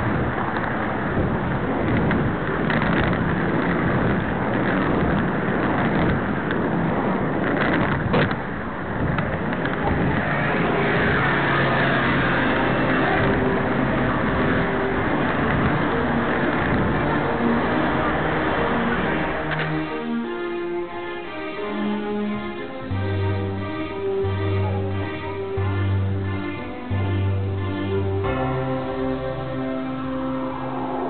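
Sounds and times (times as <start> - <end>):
steady tones: 0.0 - 31.0
vehicle rushing drone: 0.0 - 31.0.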